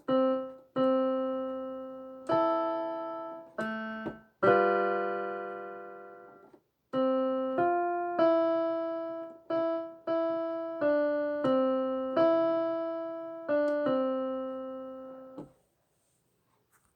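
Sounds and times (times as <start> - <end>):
slow piano chords: 0.0 - 15.5.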